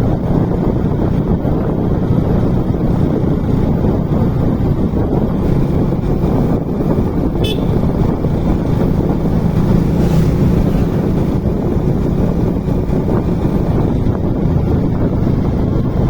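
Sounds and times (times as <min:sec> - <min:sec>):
motorcycle engine hum: 0:00.0 - 0:16.0
wind buffeting microphone: 0:00.0 - 0:16.0.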